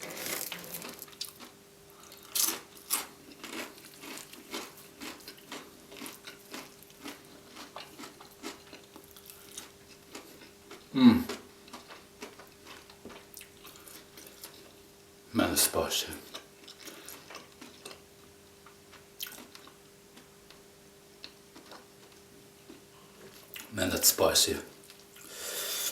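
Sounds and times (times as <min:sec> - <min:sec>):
chewing crunchy food: 0:00.0 - 0:14.9, 0:16.2 - 0:20.6, 0:21.2 - 0:23.7.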